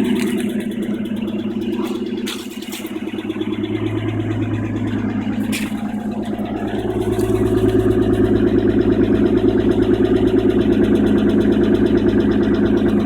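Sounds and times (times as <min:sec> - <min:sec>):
car engine idling: 0:00.0 - 0:13.0
engine ticking and rattling: 0:00.0 - 0:13.0.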